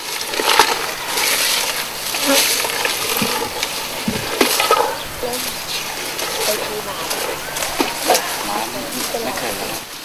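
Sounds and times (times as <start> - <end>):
crackling and rustling: 0.0 - 10.0
insects buzzing: 0.0 - 10.0.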